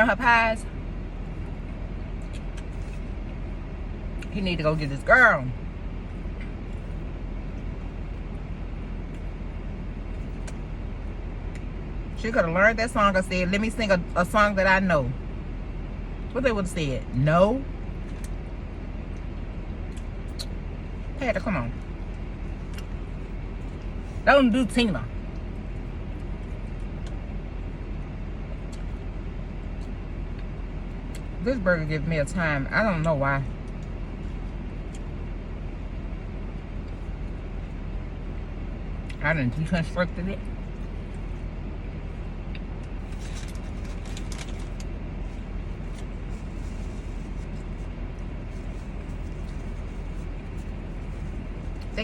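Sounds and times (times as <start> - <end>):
car engine rumble inside cabin: 0.0 - 52.0.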